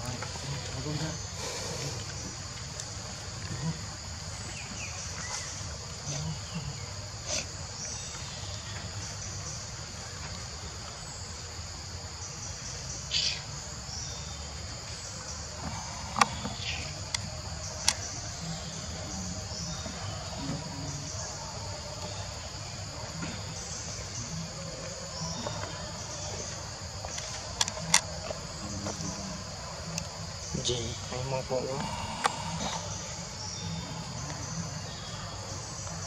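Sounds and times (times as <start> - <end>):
insect chorus drone: 0.0 - 36.0.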